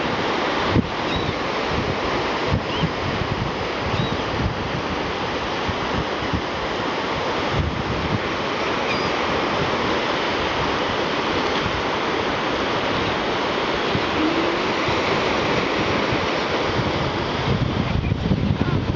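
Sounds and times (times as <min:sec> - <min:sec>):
ocean surf washing onto beach: 0:00.0 - 0:18.9
wind buffeting microphone: 0:00.0 - 0:18.9.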